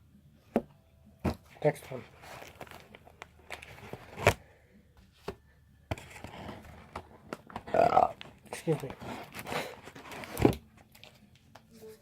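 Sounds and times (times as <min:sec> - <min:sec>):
paper and card rustling: 0:01.3 - 0:04.4, 0:05.2 - 0:12.0.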